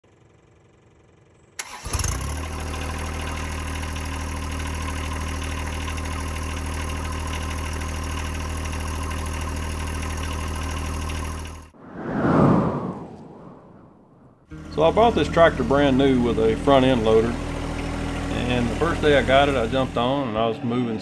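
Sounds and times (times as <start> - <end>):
diesel tractor engine starting and idling: 0.3 - 11.7, 14.8 - 21.0.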